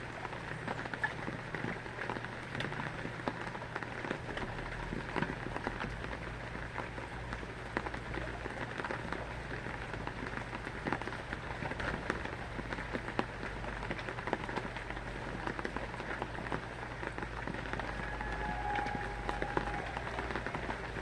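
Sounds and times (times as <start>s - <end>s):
rain falling on a surface: 0.0s - 21.0s.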